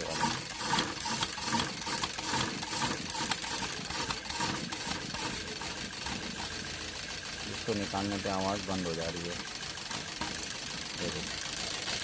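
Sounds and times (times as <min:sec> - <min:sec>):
car engine idling unevenly: 0:00.0 - 0:12.0
rapid injector ticking: 0:00.0 - 0:12.0.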